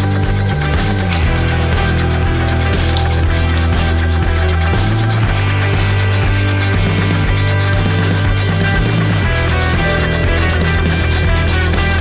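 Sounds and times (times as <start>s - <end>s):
rock music with distorted guitar: 0.0s - 12.0s.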